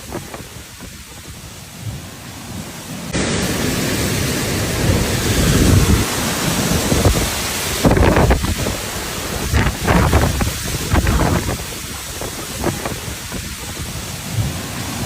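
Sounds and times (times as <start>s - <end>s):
wind and rain on microphone: 0.0s - 15.0s.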